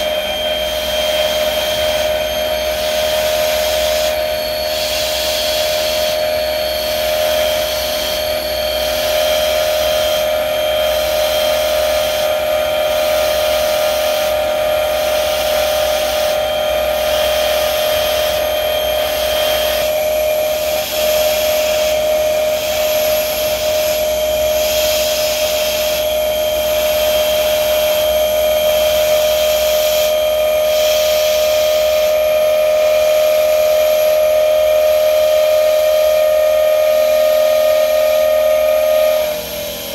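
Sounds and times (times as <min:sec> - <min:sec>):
cutting hiss: 0:00.0 - 0:39.9
high cutting whine: 0:00.0 - 0:39.9.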